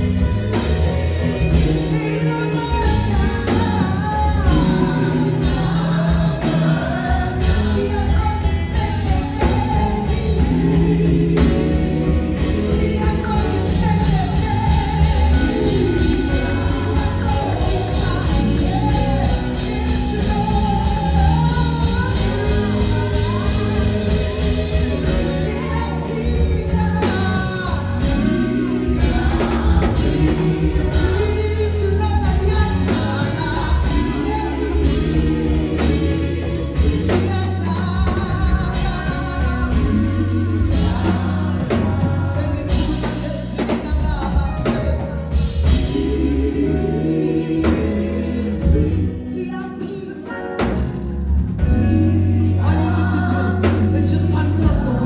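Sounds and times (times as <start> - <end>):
band with drums and bass: 0.0 - 55.0.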